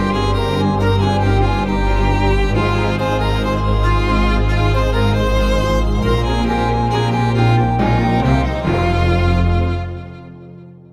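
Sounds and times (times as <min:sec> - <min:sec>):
steady low bass: 0:00.0 - 0:10.4
instrumental music with held notes: 0:00.0 - 0:10.9.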